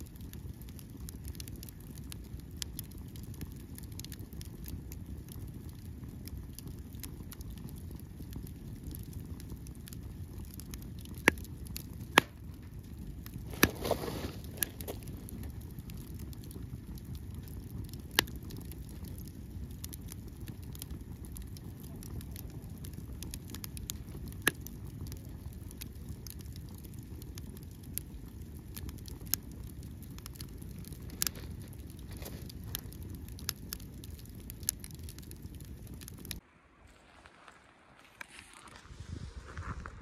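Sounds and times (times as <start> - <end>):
firewood crackling and popping: 0.0 - 40.0.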